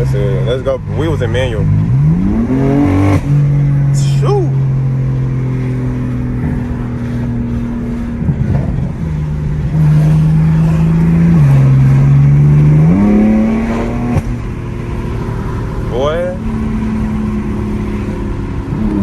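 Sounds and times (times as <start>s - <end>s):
car exhaust droning: 0.0s - 19.0s.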